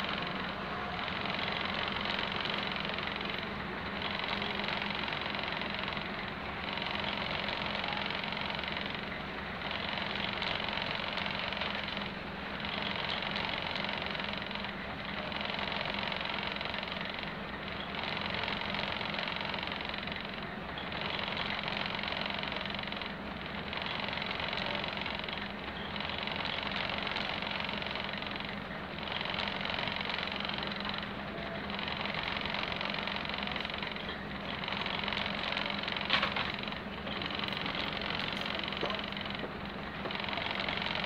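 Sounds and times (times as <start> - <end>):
railcar diesel engines idling: 0.0 - 41.0.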